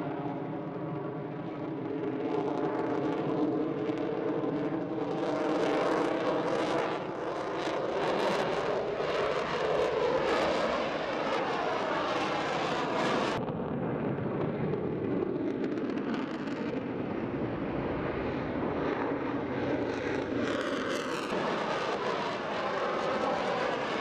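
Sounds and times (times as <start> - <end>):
jet engine crackle: 0.0 - 24.0
jet engine roar: 0.0 - 24.0.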